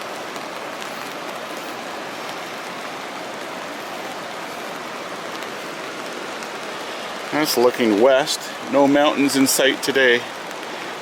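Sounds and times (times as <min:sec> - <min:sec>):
loud creek: 0:00.0 - 0:11.0
rain: 0:00.0 - 0:11.0.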